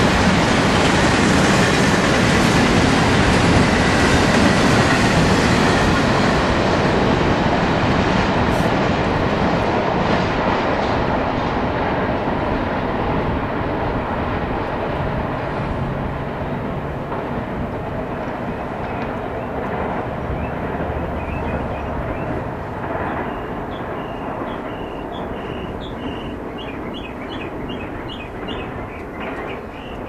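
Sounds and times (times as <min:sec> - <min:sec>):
freight train cars rolling past: 0:00.0 - 0:30.0.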